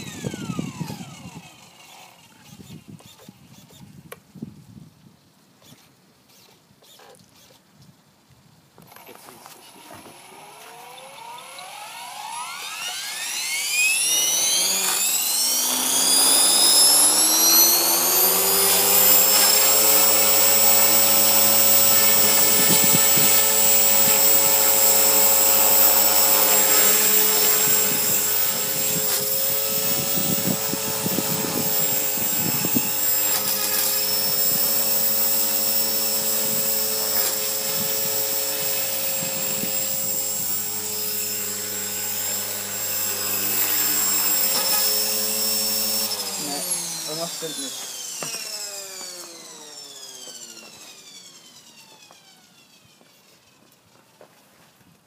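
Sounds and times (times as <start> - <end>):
electric helicopter motor whine: 0.0 - 4.0, 8.8 - 54.0.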